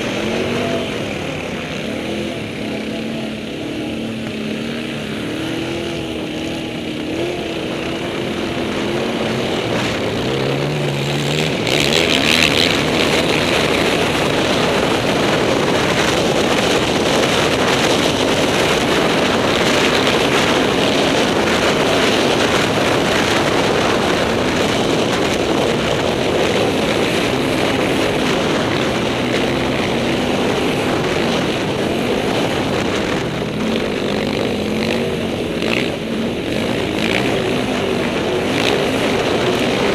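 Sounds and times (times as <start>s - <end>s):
quad engine running hard: 0.0s - 39.9s
wind rushing over microphone: 0.0s - 39.9s.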